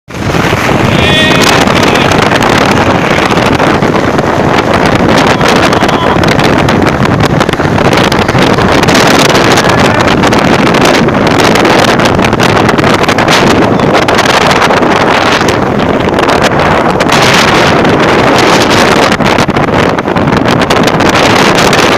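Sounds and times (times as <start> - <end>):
wind buffeting microphone: 0.1 - 21.9.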